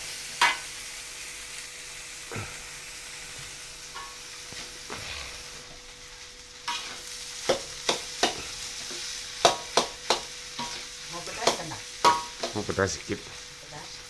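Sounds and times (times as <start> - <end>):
rice sizzling in a pan: 0.0 - 14.0.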